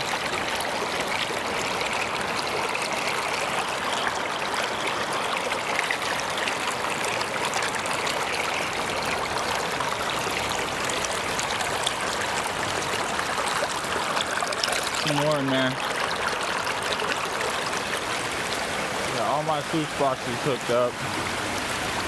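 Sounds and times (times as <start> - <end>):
river water flowing over rocks: 0.0 - 22.0.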